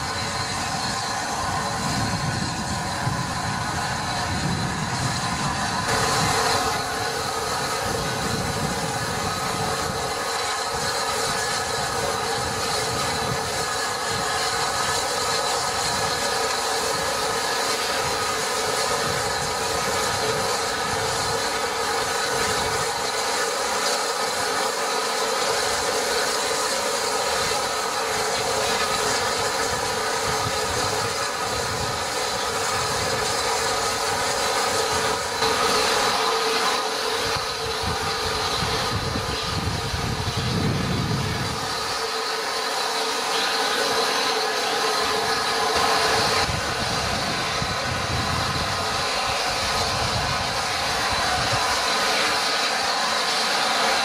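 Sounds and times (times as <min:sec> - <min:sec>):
steam locomotive blowing off steam: 0:00.0 - 0:54.0.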